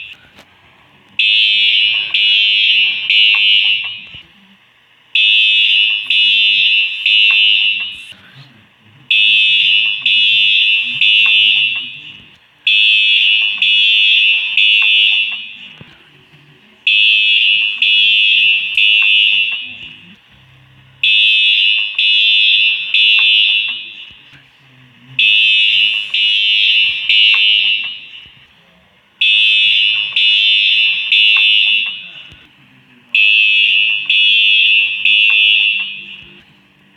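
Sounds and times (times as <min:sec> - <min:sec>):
fire alarm beeping: 0:01.2 - 0:04.4, 0:05.1 - 0:08.2, 0:09.1 - 0:16.0, 0:16.8 - 0:20.2, 0:21.0 - 0:24.4, 0:25.2 - 0:28.5, 0:29.2 - 0:32.5, 0:33.1 - 0:36.7.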